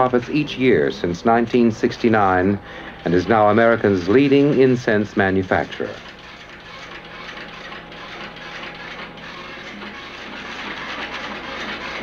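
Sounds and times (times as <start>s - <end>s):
electric typewriter typing: 1.5s - 12.0s.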